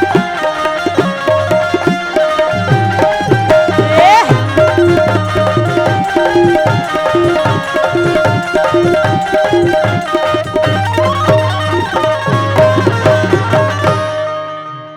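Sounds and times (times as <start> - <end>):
instrumental melody: 0.0 - 14.9
tabla playing a quick beat: 0.0 - 14.9.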